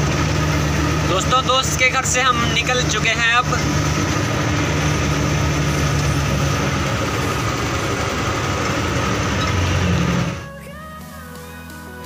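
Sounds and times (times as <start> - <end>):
tyre noise on wet road: 0.0 - 10.5
diesel truck engine running: 0.0 - 12.0.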